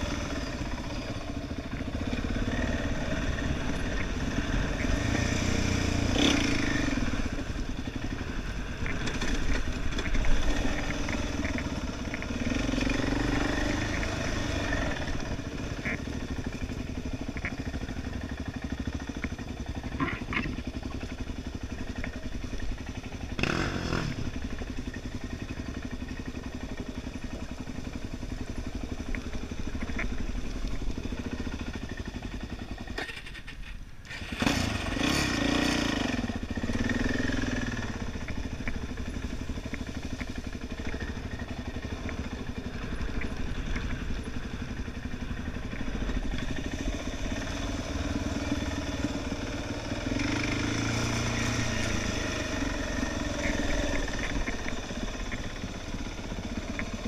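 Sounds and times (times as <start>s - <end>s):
quad bike engine running: 0.0s - 57.0s
wind and tyre noise: 0.0s - 57.0s.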